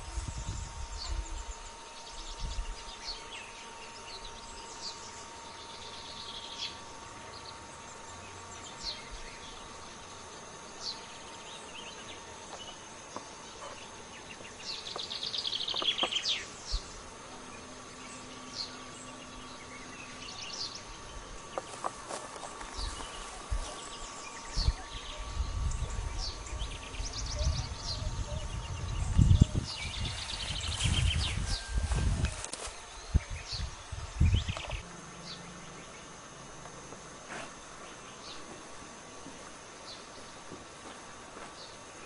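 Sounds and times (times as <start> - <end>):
faint steady high tone: 0.0 - 36.1
wild birds chirping: 0.0 - 42.0.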